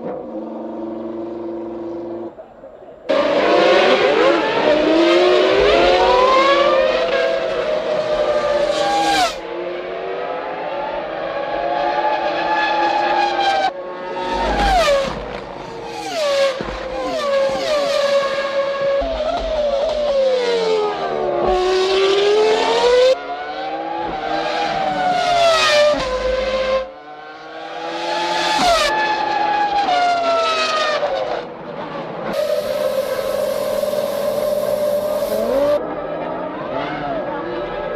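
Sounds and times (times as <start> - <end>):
racing car engines at high revs: 0.0 - 2.4, 3.1 - 37.9.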